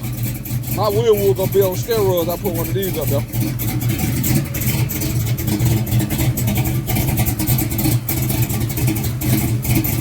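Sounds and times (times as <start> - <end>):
car engine idling choppily: 0.0 - 10.0.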